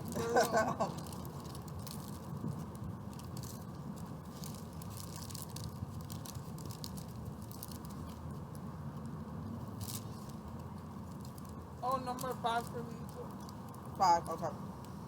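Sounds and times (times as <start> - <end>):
low background hum: 0.0 - 15.0
people chewing tacos: 0.0 - 15.0.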